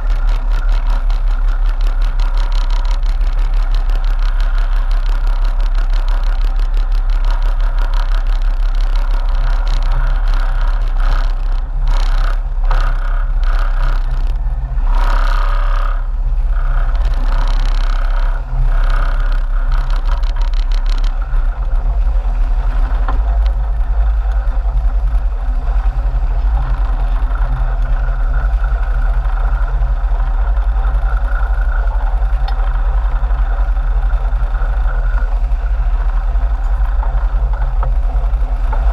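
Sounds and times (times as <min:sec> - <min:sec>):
boat engines droning: 0:00.0 - 0:38.9.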